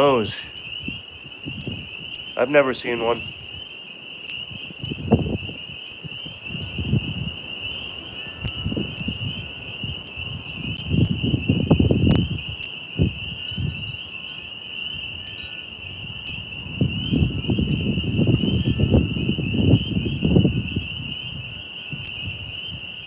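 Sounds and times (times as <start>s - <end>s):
crickets chirring: 0.0s - 23.0s
wind rumbling on microphone: 0.0s - 23.0s.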